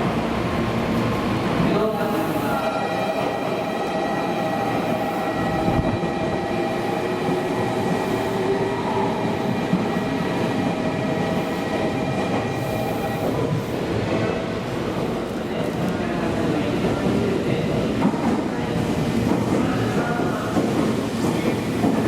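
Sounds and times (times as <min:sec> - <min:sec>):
electric train rumbling and whining: 0:00.0 - 0:22.0.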